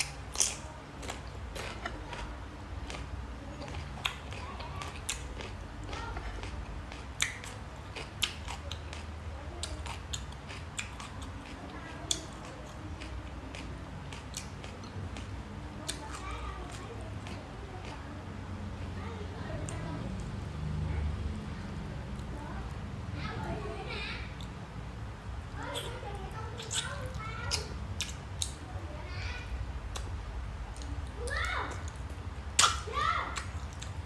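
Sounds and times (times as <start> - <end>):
person chewing with wet smacks: 0.0 - 22.8, 24.3 - 28.8, 29.4 - 34.0
steady low hum: 0.0 - 34.0.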